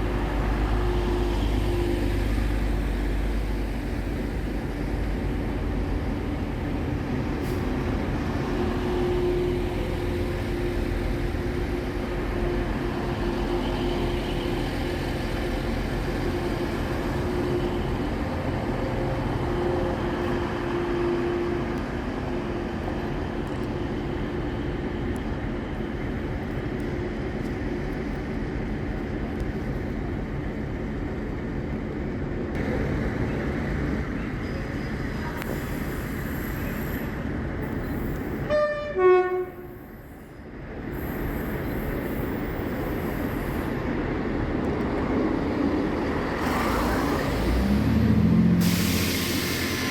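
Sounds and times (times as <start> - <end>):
train rumbling: 0.0 - 49.9.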